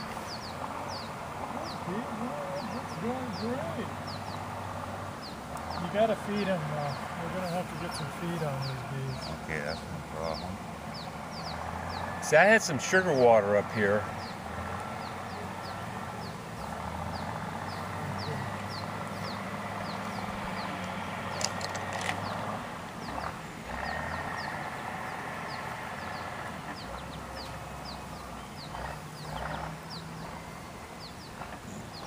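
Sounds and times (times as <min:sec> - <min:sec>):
bird chirping: 0:00.0 - 0:32.0.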